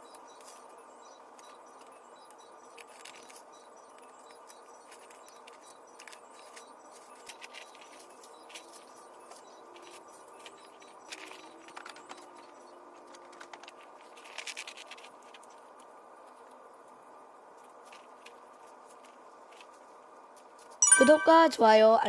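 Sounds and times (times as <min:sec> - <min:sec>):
light clicks and crackles: 0:01.4 - 0:20.8.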